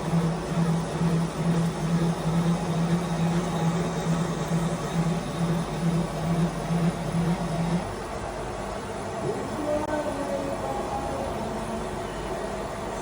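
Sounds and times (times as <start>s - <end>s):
boring machine humming: 0.0s - 13.0s.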